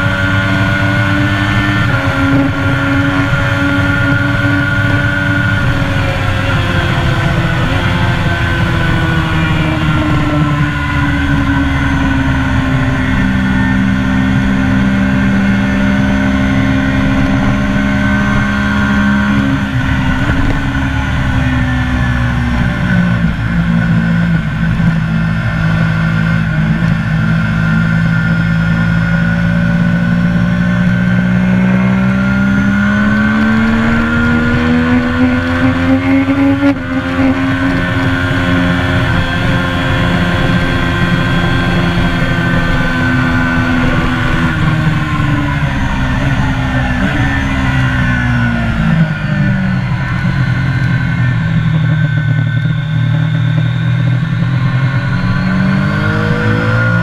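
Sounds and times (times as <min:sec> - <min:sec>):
motorcycle engine: 0:00.0 - 0:57.0
wind rush: 0:00.0 - 0:57.0.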